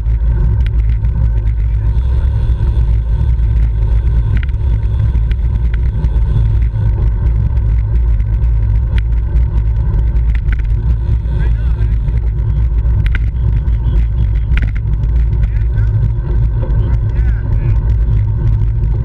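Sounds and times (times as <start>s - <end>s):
wind rumble on microphone: 0.0s - 19.0s
faint clicks: 0.1s - 2.0s, 2.7s - 19.0s.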